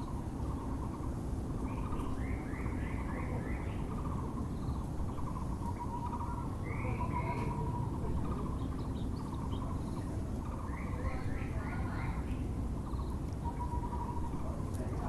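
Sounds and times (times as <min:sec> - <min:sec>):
barbet rapid pulsing call: 0:00.0 - 0:14.6
low background noise: 0:00.0 - 0:15.0.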